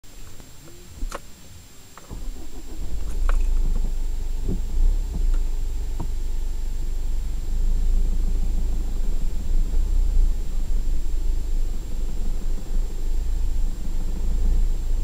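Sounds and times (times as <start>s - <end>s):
vehicle engine rumble from cabin: 0.0s - 15.0s.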